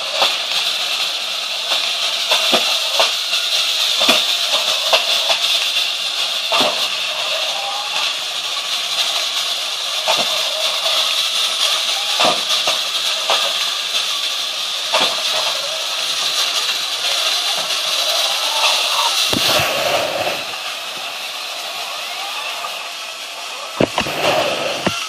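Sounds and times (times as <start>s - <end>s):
toy electric motors whirring: 0.0s - 25.0s.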